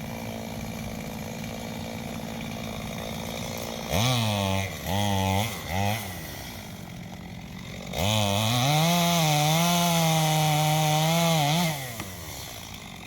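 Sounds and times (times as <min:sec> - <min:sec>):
chainsaw revving and cutting: 0:00.0 - 0:13.0.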